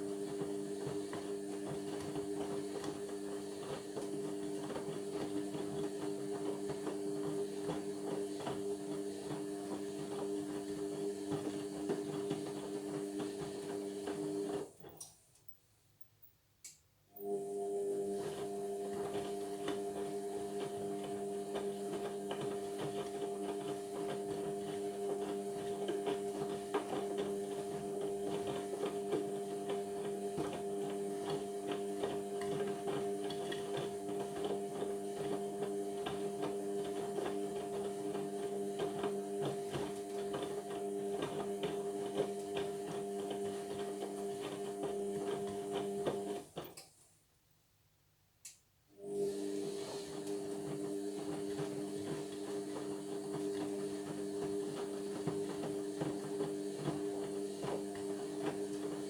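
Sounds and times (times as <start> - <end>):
washing machine humming: 0.0 - 15.0, 17.2 - 46.8, 49.0 - 59.0.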